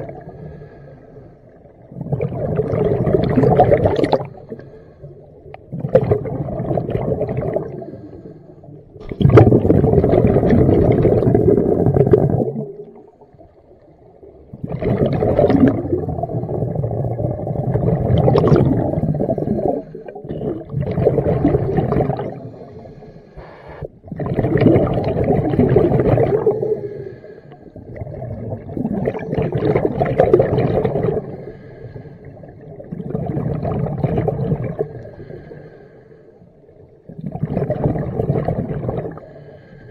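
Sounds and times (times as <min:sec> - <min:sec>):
diver exhaling bubbles underwater: 0:00.0 - 0:00.8, 0:01.6 - 0:04.8, 0:05.4 - 0:08.2, 0:09.0 - 0:13.4, 0:14.5 - 0:22.8, 0:23.4 - 0:35.5, 0:37.0 - 0:39.4.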